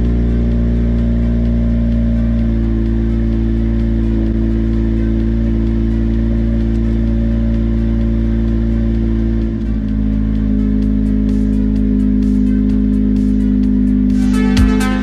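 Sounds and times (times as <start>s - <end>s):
car engine droning: 0.0s - 15.0s
road rumble: 0.0s - 15.0s.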